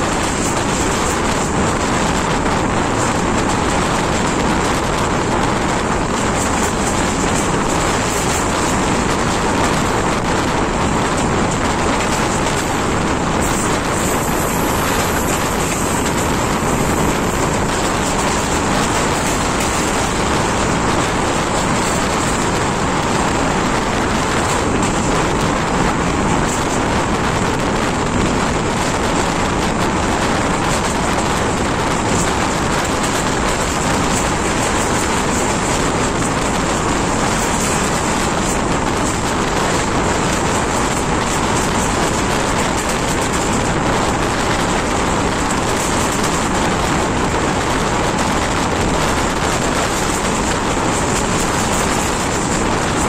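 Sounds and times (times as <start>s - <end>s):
train wheels rushing on rails: 0.0s - 53.0s
wind: 0.0s - 53.0s.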